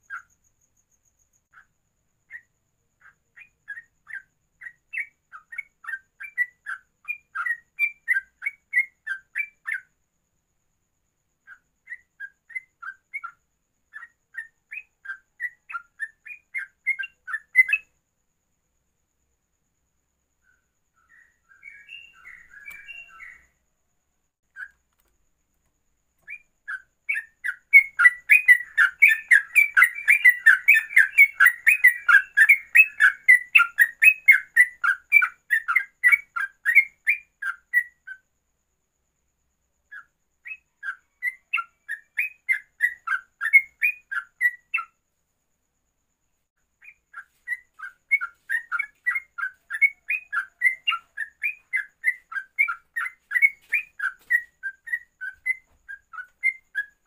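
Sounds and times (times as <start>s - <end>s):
bulbul singing whistled notes: 0.0s - 10.0s, 11.4s - 18.0s, 20.4s - 23.6s, 26.2s - 38.3s, 39.8s - 45.0s, 46.8s - 57.0s.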